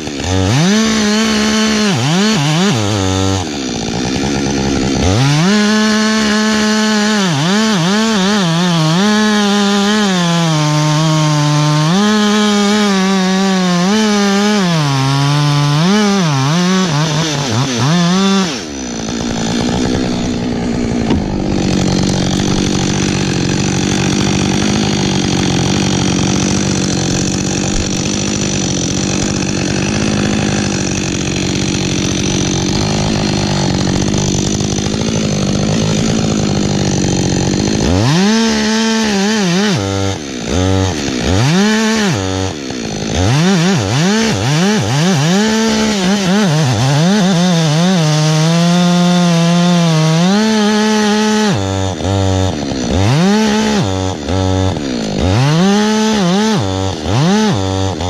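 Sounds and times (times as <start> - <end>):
chainsaw cutting wood: 0.0 - 58.0
chainsaw engine revving: 0.0 - 58.0.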